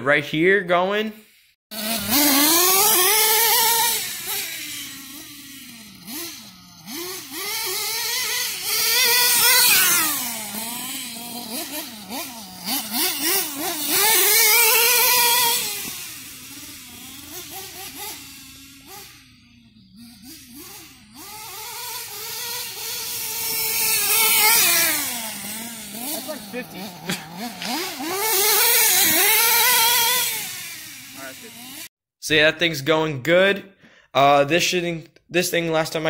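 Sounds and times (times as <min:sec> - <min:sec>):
rc truck engine revving: 0:01.2 - 0:31.9.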